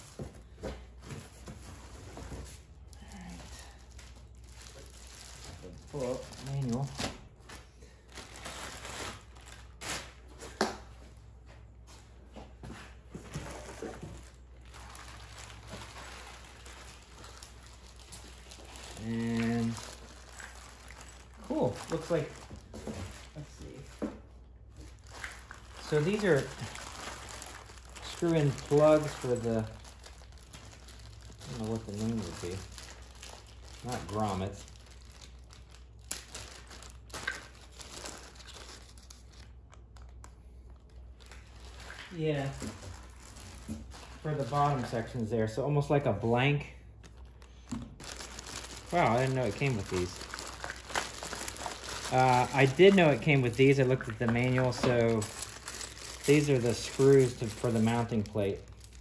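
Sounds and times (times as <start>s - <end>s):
plastic and cardboard rustling: 0.0s - 45.3s, 46.0s - 59.0s
plastic bag crinkling: 2.7s - 10.2s, 13.5s - 24.0s, 24.7s - 45.2s, 46.9s - 59.0s.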